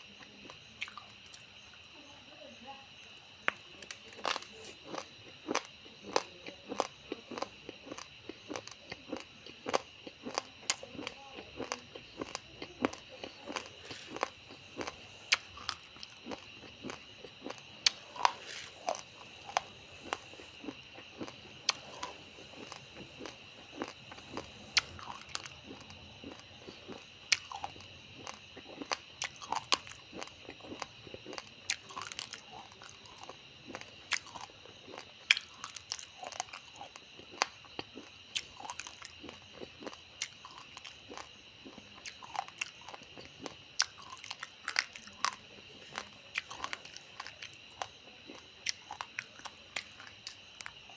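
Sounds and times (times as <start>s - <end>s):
raw rice being chewed: 0.0s - 2.0s, 2.9s - 50.9s.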